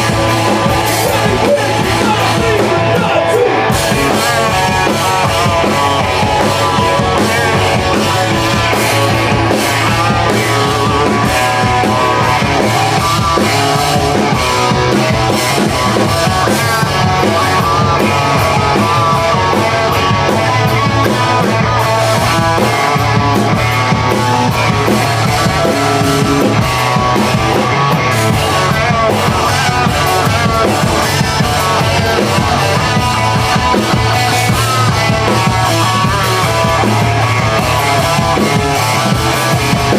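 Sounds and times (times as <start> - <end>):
live rock band instrumental: 0.0 - 39.9.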